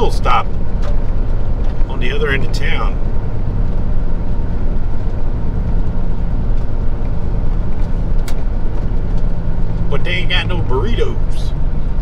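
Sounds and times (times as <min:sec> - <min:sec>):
diesel engine hum: 0:00.0 - 0:12.0
road noise: 0:00.0 - 0:12.0.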